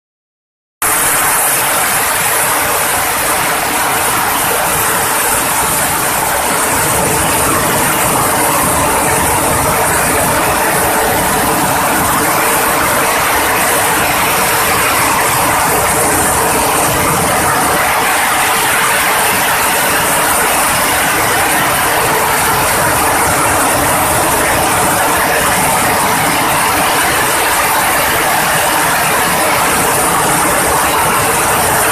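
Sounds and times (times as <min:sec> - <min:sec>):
steady hum: 0:00.8 - 0:31.9.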